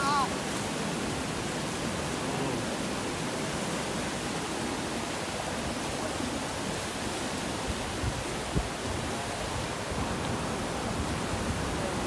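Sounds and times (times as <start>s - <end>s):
churning white water: 0.0s - 12.0s.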